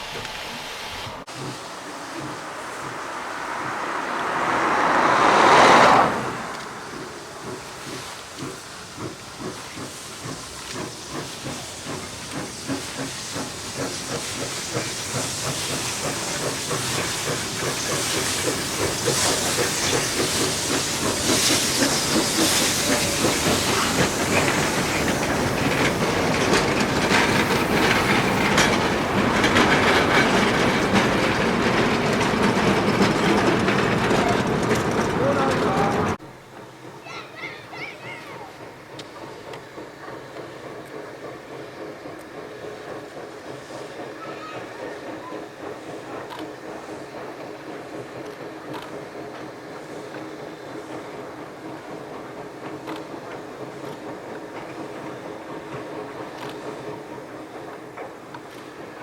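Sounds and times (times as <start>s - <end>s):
loud steam hissing: 0.0s - 59.0s
steam locomotive exhaust beats: 0.0s - 59.0s.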